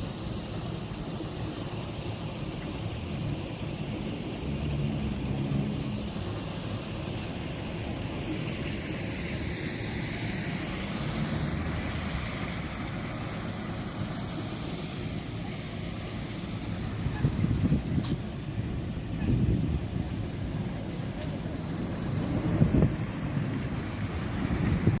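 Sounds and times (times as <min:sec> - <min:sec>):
engine rumble passing by: 0:02.6 - 0:25.0.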